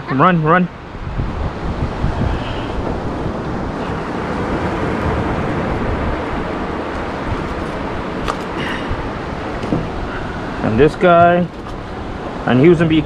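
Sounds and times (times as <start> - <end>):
surf on beach: 0.0 - 13.0
wind rushing over microphone: 0.0 - 13.0.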